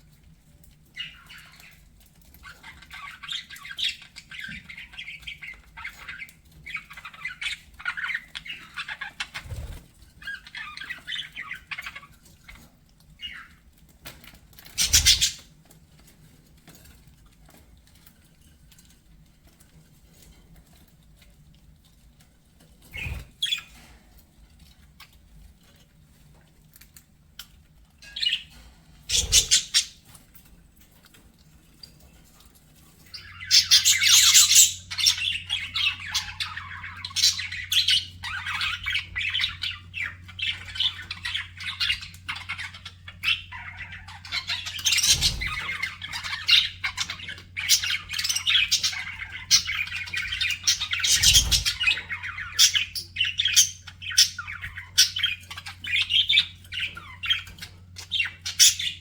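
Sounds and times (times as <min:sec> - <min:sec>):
budgerigars chirping and warbling: 0:00.6 - 0:21.3, 0:22.8 - 0:23.9, 0:24.5 - 0:59.0.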